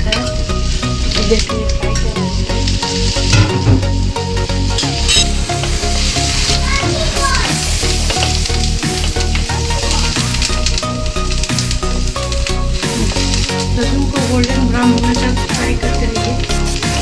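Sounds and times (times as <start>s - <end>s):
garlic sizzling in butter: 0.0s - 17.0s.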